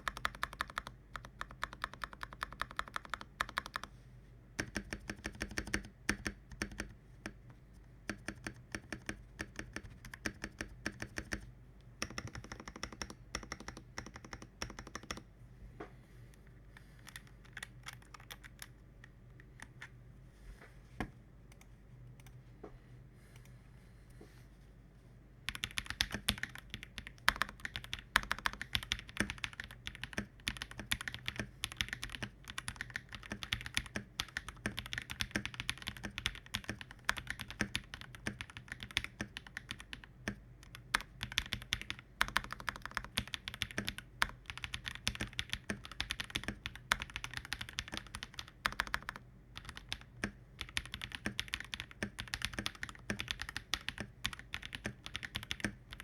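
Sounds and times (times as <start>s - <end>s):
fast mechanical keyboard typing: 0.0s - 3.9s, 4.6s - 7.0s, 8.1s - 15.2s, 17.0s - 18.7s, 25.5s - 56.0s.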